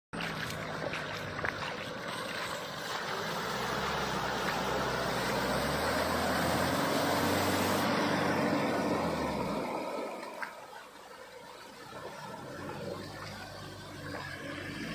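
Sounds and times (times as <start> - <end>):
diesel engine under load: 0.1 - 14.9.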